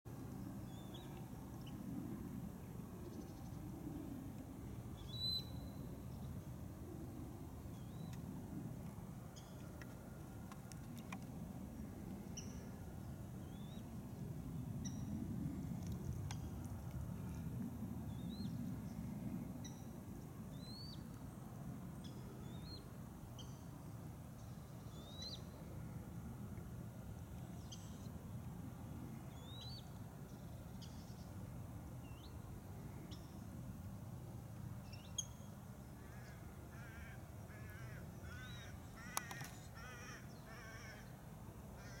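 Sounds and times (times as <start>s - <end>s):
faint low rumble: 0.1s - 39.0s.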